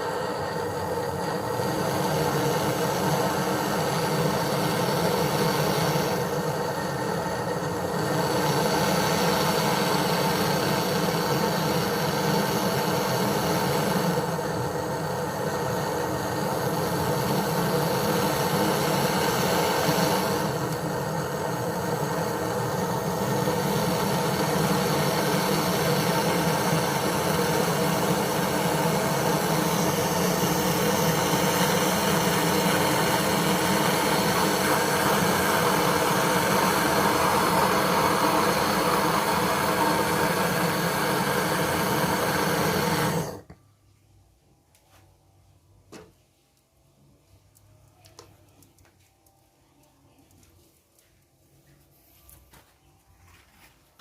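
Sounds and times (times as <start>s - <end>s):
motor humming: 0.0s - 43.5s.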